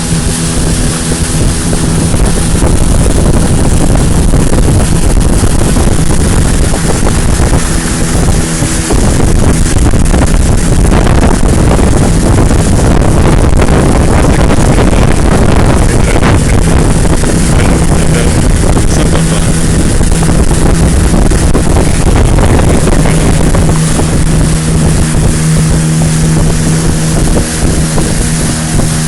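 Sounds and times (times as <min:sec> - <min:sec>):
motorboat engine running: 0:00.0 - 0:29.0
wind noise on microphone: 0:00.0 - 0:29.0.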